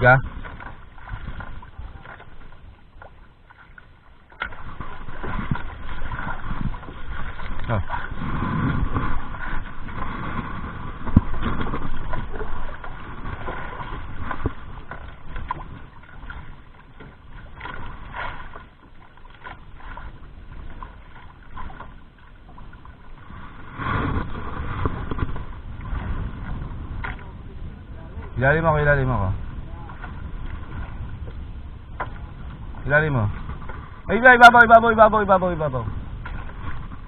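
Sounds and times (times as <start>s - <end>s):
water splashing against boat hull: 0.0s - 37.0s.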